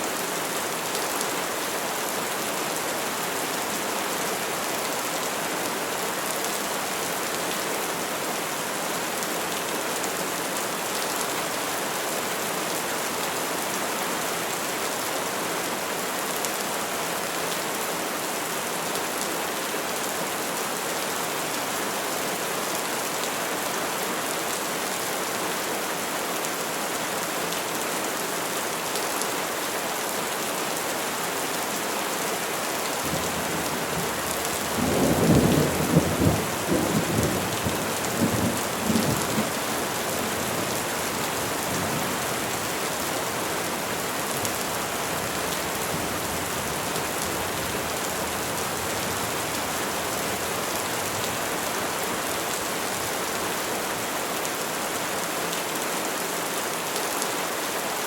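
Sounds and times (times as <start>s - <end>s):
rain falling on trees: 0.0s - 58.0s.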